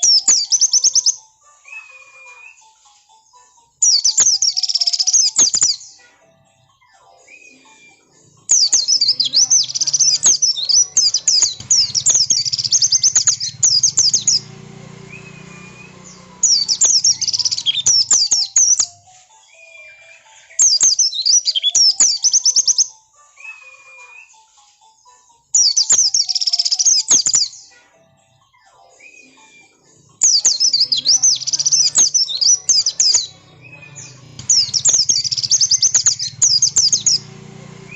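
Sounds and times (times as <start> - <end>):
bird high-pitched chirping: 0.0 - 2.8, 3.8 - 6.1, 6.8 - 24.6, 25.6 - 27.8, 28.6 - 37.9.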